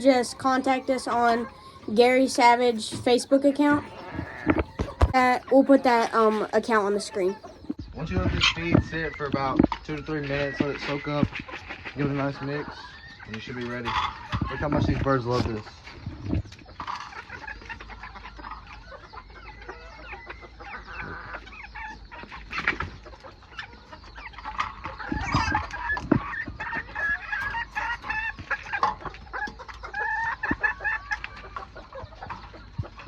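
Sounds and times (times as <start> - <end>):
chickens clucking and calling: 0.0 - 33.0.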